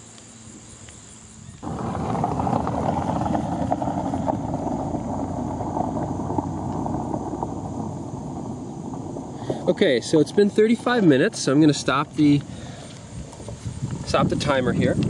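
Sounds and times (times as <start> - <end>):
wind buffeting microphone: 1.6 - 15.0.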